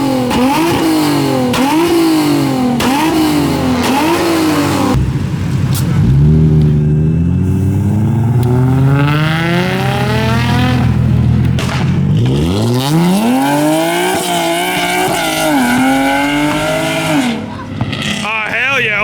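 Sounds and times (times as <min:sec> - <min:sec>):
car engine revving hard: 0:00.0 - 0:19.0
tyres squealing: 0:02.8 - 0:19.0.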